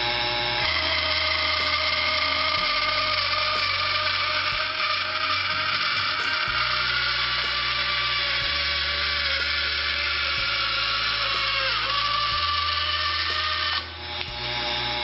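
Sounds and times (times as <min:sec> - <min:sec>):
bandsaw cutting metal: 0:00.0 - 0:15.0.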